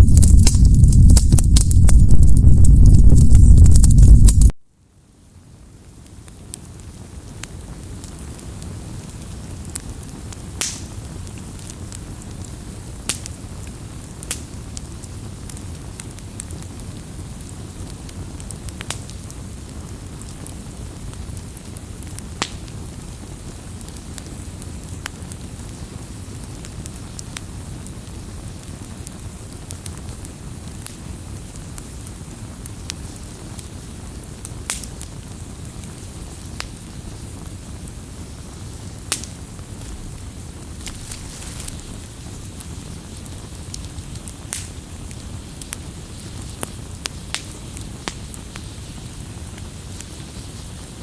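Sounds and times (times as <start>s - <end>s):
firewood crackling and popping: 0.0s - 51.0s
low rumble of flame: 0.0s - 51.0s.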